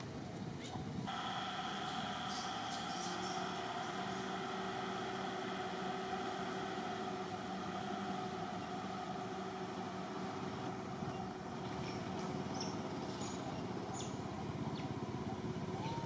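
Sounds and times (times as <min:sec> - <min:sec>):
motor idling hum: 0:01.1 - 0:16.0.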